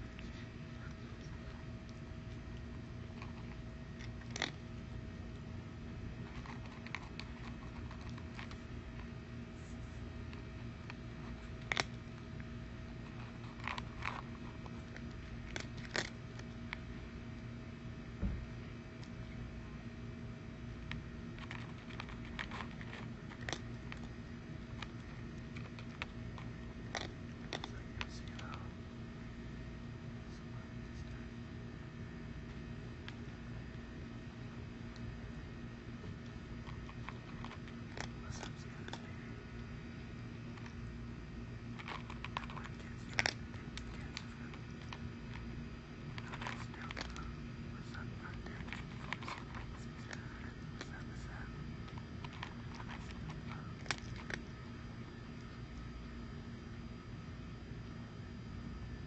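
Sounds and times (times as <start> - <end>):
cat crunching dry food: 0.0 - 58.5
steady low hum: 0.0 - 59.0.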